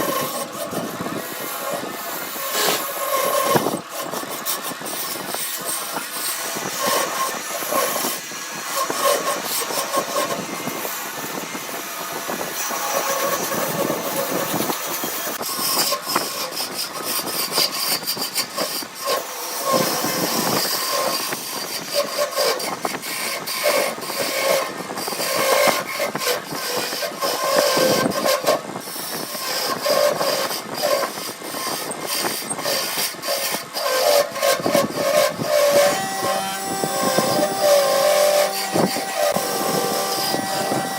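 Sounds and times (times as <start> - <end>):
tool clicks and chatter: 0.0 - 40.9
wood lathe cutting hiss: 0.0 - 40.9.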